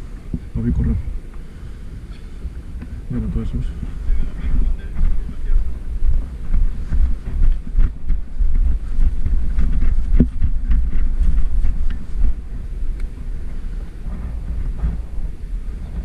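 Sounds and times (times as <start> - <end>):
faint clicks and rustles: 0.0 - 16.0
wind buffeting microphone: 0.0 - 16.0.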